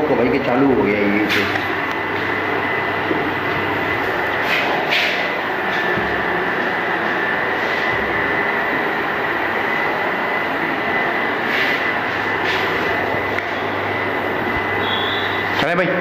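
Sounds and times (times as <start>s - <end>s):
high-pitched whine: 0.0s - 16.0s
inverter mechanical noise: 0.0s - 16.0s.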